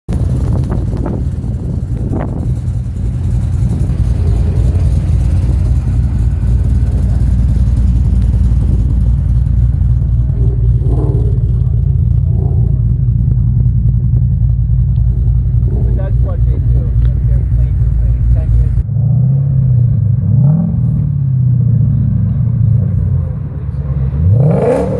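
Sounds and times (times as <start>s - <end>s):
car engine idling with deep rumble: 0.1s - 24.9s.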